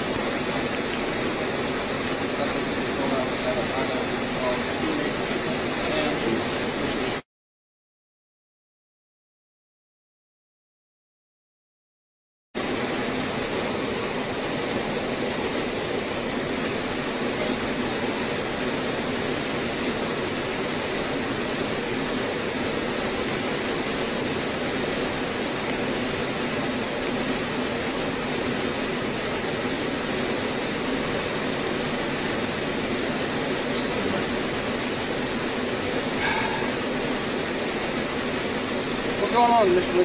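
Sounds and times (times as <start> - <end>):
steady hiss: 0.0 - 7.2, 12.6 - 40.0.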